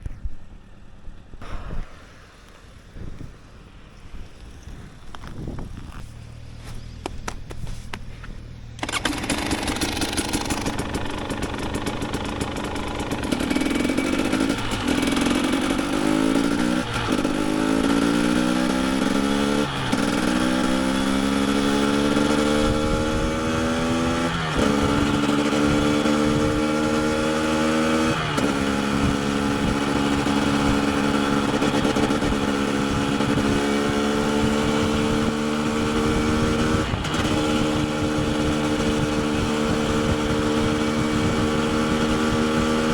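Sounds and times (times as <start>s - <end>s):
motorcycle engine shifting gears: 0.0s - 42.9s.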